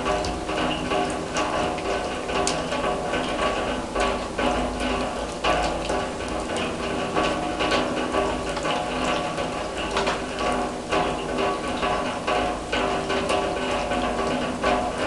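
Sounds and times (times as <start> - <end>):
rain drops tapping on steel drum: 0.0 - 15.0
steady rain patter: 0.0 - 15.0.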